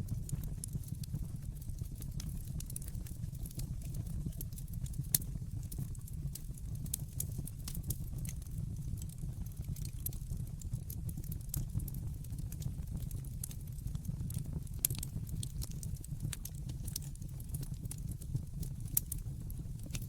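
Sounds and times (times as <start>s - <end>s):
fire crackles and pops: 0.0s - 20.0s
low rumble of fire: 0.0s - 20.0s.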